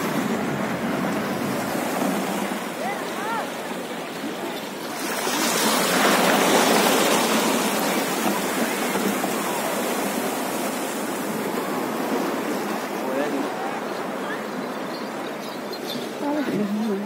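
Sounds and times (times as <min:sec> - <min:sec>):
water splashing along boat hull: 0:00.0 - 0:17.0.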